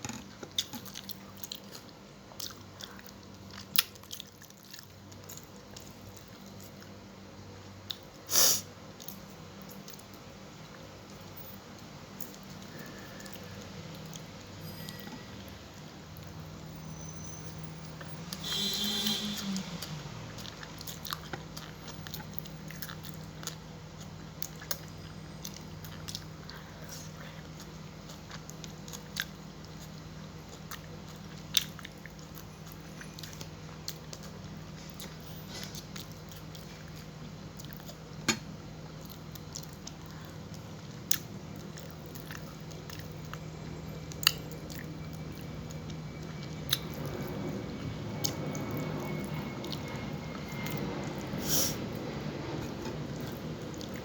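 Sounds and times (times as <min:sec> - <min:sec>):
person chewing food: 0:00.0 - 0:07.0, 0:08.9 - 0:16.4, 0:19.8 - 0:54.0
steady low hum: 0:00.0 - 0:54.0.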